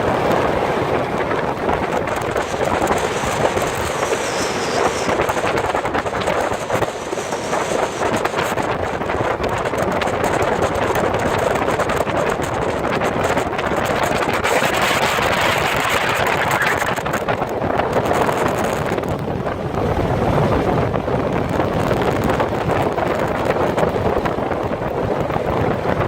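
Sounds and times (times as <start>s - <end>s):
boat engine: 0.0s - 26.0s
water noise: 0.0s - 26.0s
wind buffeting microphone: 0.0s - 26.0s.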